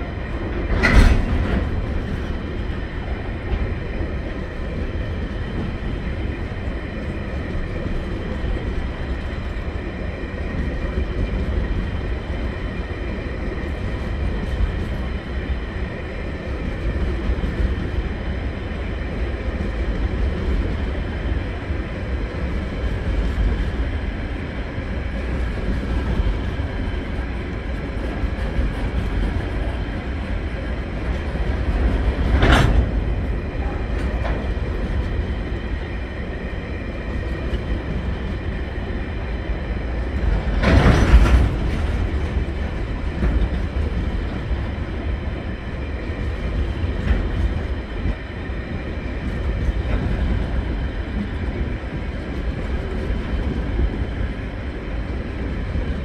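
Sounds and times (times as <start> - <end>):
freight train rumble and clatter: 0.0 - 56.0.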